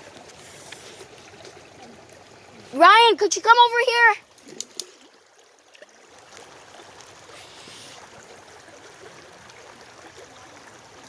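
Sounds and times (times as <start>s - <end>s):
creek trickling: 0.0s - 11.0s.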